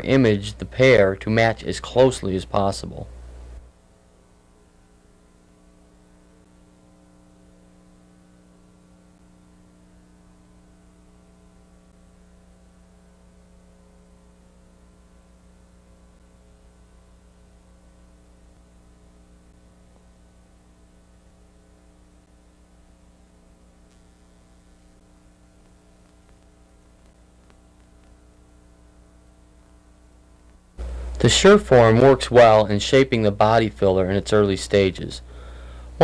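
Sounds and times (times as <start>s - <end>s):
electrical mains hum with hiss: 0.0s - 36.0s.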